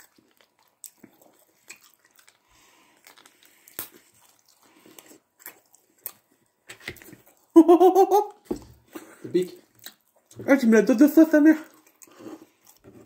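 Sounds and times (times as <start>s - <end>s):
person chewing pizza: 0.0s - 7.6s, 8.2s - 10.5s, 11.6s - 13.0s.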